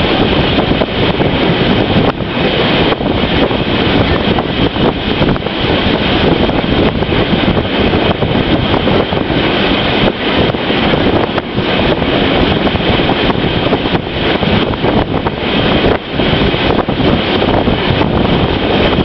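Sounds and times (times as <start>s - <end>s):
train rumbling: 0.0s - 19.0s
wind buffeting microphone: 0.0s - 19.0s.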